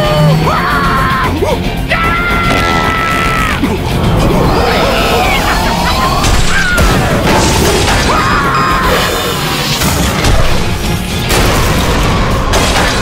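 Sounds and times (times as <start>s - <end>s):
busy cartoon music: 0.0s - 13.0s.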